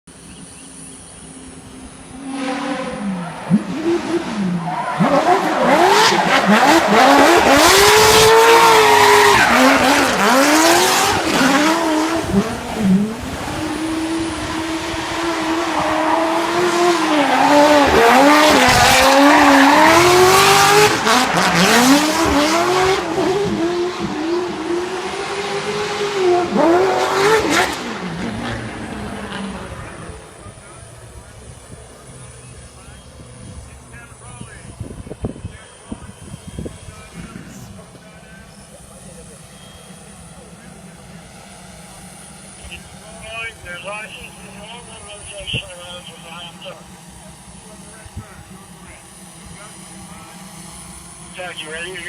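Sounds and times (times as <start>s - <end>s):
race car engine revving: 1.3s - 52.0s.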